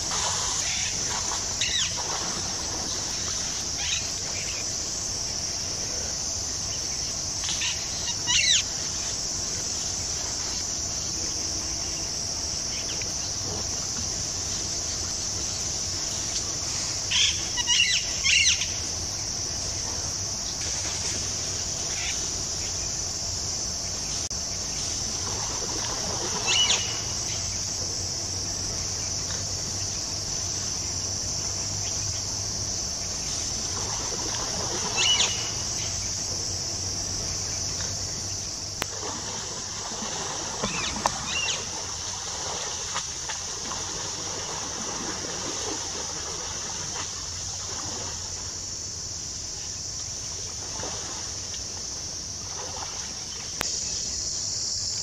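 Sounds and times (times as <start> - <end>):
insects shrilling: 0.0 - 44.2.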